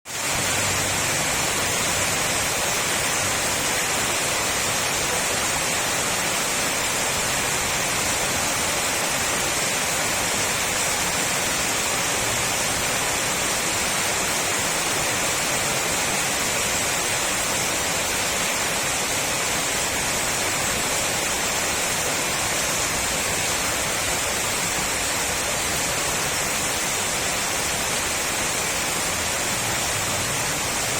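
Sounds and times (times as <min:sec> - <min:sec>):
heavy rain hissing: 0:00.0 - 0:30.9.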